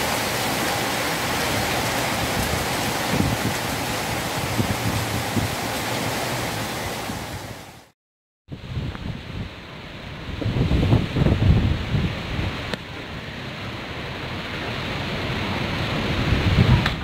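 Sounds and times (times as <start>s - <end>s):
wind gusts buffeting microphone: 1.5s - 7.6s, 8.5s - 17.0s
strong wind rushing: 2.2s - 7.8s, 8.5s - 17.0s.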